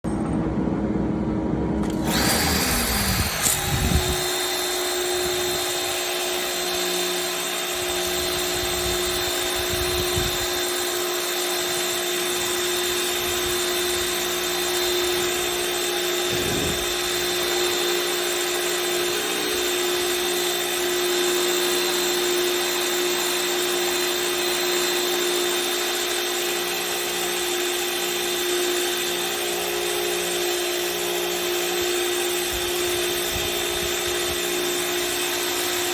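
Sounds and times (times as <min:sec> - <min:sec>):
machine whine: 0:01.8 - 0:35.9.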